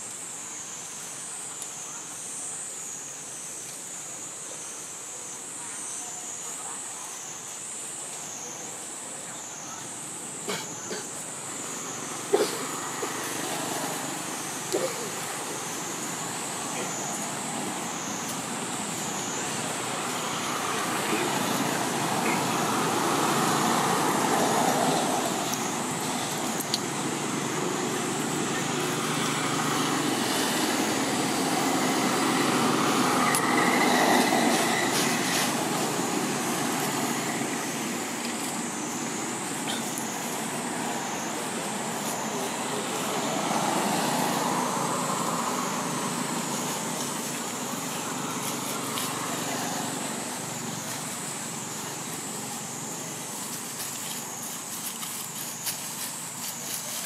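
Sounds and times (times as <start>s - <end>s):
passing road traffic: 0.0s - 57.0s
steady high-pitched hiss: 0.0s - 57.0s.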